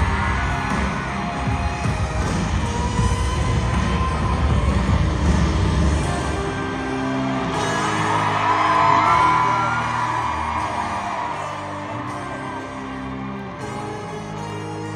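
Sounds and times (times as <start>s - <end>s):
crowd screaming and cheering: 0.0s - 14.9s
live concert music: 0.0s - 14.9s.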